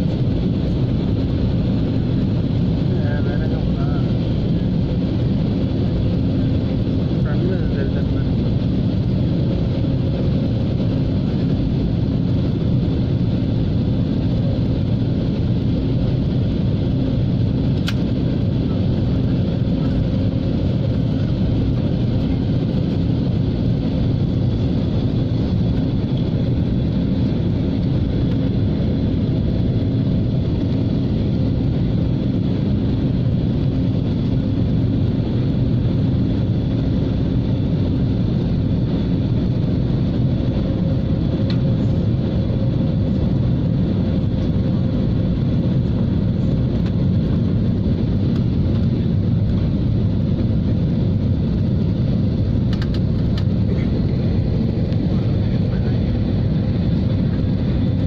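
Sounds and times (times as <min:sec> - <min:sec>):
airflow and jet engines rumbling: 0:00.0 - 0:58.0.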